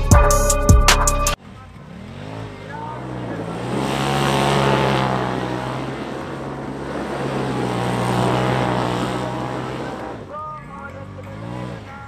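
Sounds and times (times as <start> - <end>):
engine at high revs: 1.4 - 12.0
tires churning dirt: 1.4 - 12.0.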